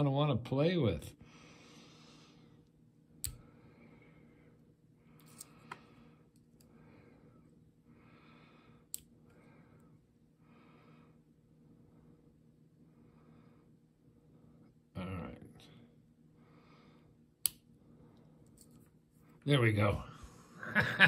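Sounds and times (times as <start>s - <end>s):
soft breathing: 1.2s - 14.9s, 15.6s - 19.4s.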